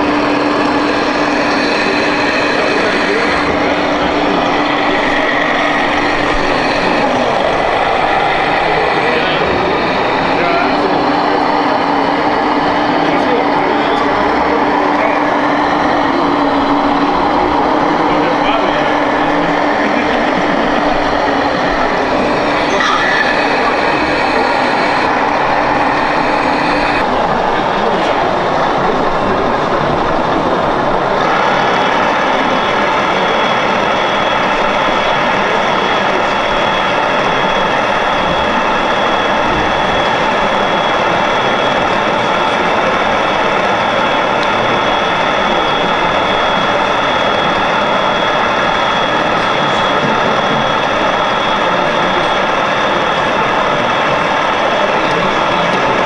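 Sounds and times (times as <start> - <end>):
busy hall background noise: 0.0 - 56.0
diesel engine drone: 0.0 - 56.0.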